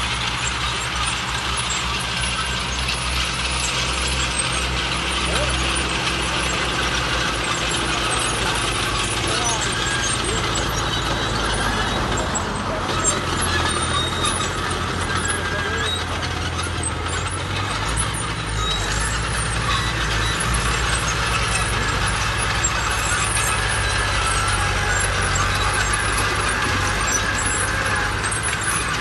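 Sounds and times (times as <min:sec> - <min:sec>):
diesel tractor engines under load: 0:00.0 - 0:29.0.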